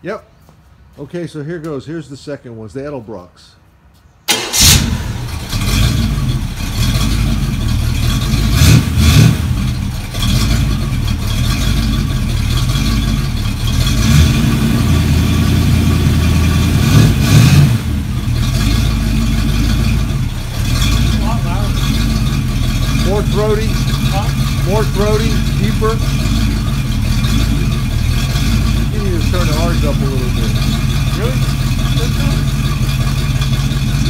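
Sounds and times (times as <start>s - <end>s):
engine starting and revving: 4.3s - 34.0s.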